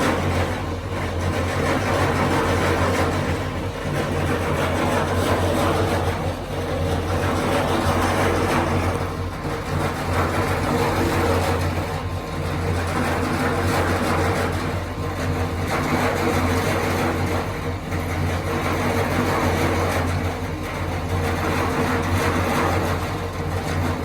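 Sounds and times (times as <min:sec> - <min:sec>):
engine humming with rattle: 0:00.0 - 0:24.0.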